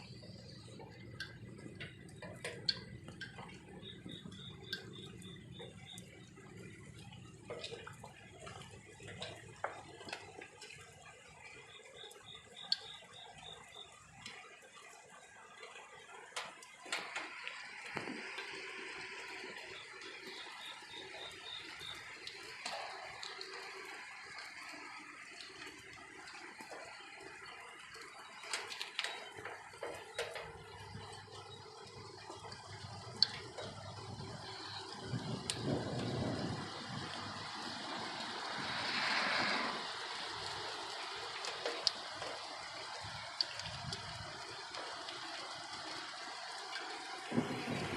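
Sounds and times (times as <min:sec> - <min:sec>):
rain falling: 0:00.0 - 0:47.9
water dripping: 0:00.0 - 0:47.9
water splashing: 0:00.0 - 0:47.9.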